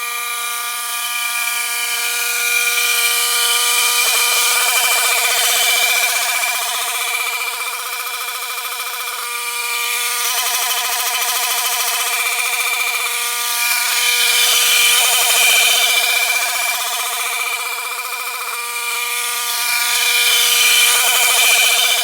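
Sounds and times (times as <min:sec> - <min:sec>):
grass cutter engine running: 0:00.0 - 0:22.0.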